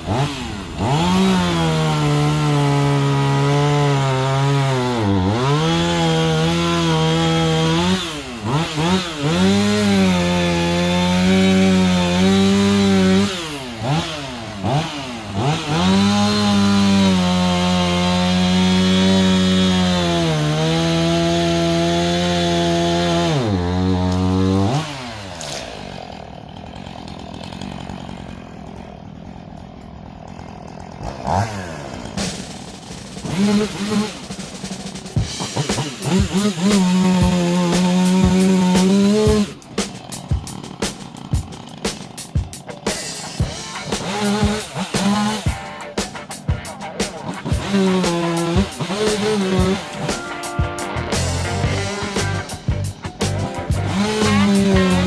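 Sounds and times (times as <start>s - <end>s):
chainsaw cutting tree trunk: 0.0s - 55.0s.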